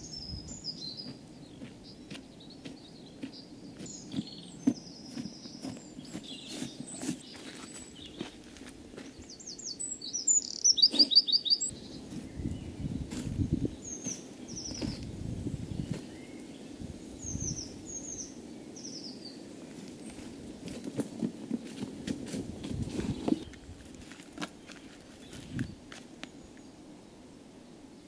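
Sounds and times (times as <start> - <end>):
birds chirping and singing: 0.0 - 21.0, 22.6 - 23.7, 24.4 - 25.8.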